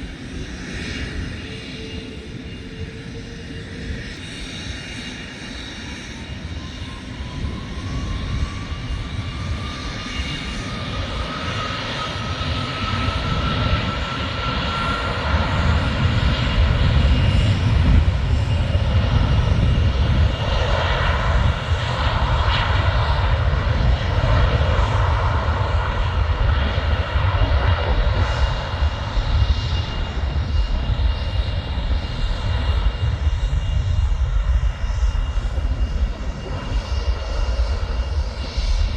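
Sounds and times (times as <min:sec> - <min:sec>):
jet engine low rumble: 0:00.0 - 0:38.9
jet engine whine: 0:00.0 - 0:38.9.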